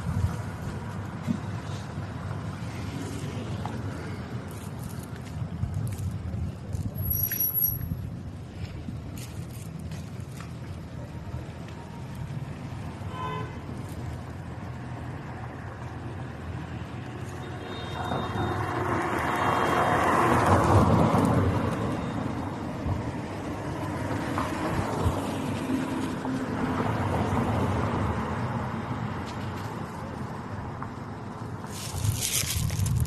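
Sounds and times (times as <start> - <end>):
street noise: 0.0 - 33.0.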